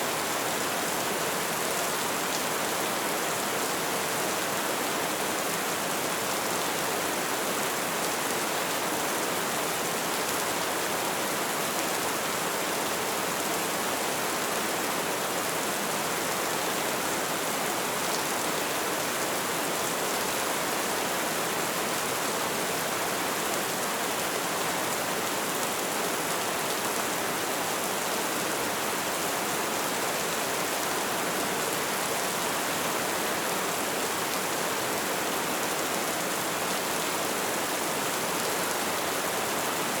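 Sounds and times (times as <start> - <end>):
light rain falling: 0.0 - 40.0.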